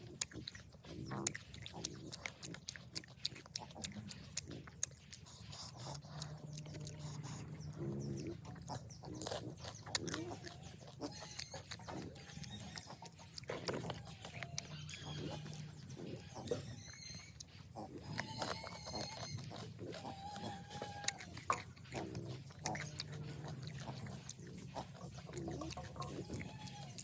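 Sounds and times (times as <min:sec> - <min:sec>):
mouth and breath noises: 0:00.0 - 0:27.0
person crunching and chewing food: 0:00.0 - 0:27.0.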